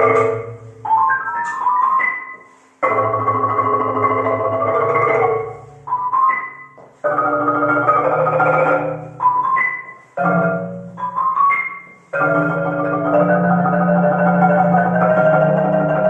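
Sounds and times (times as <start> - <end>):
marimba rolled chords: 0.0 - 16.0
rising marimba slides: 0.0 - 16.0.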